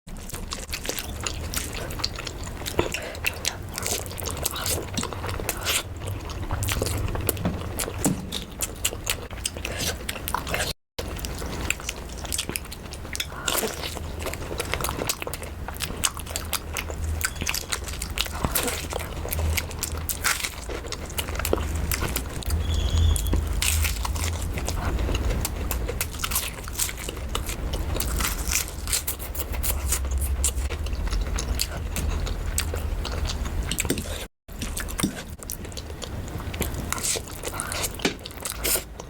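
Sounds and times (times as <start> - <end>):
biting and chewing crunches: 0.1 - 39.0
low steady rumble: 0.4 - 39.0.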